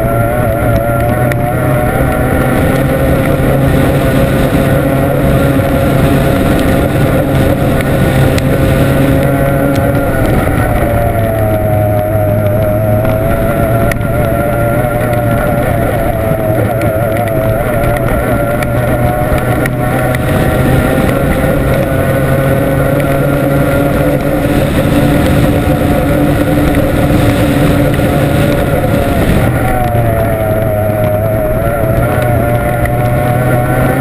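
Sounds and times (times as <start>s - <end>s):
outboard engine running hard: 0.0s - 34.0s
steady rushing noise: 0.0s - 34.0s.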